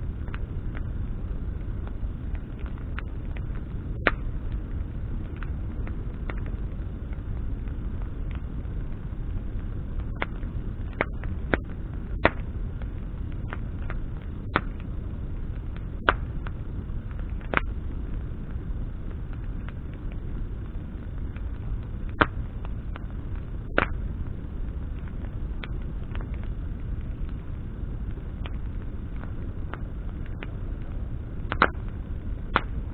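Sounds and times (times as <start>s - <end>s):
campfire flame rumble: 0.0s - 32.9s.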